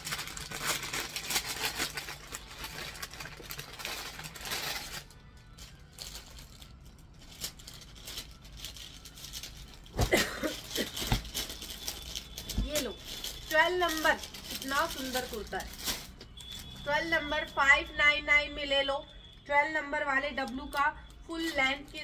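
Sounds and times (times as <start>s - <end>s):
clothes rustling and crinkling: 0.0s - 17.9s.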